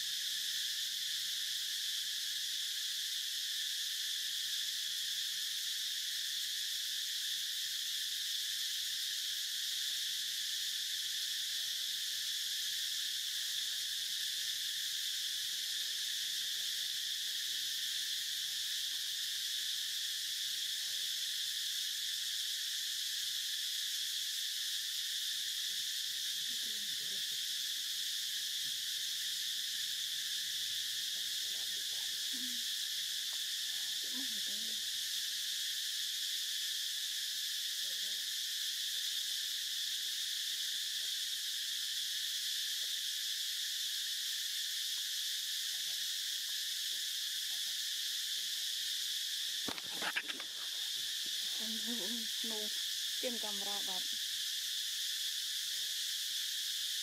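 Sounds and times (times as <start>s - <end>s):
insects chorus: 0.0s - 57.0s.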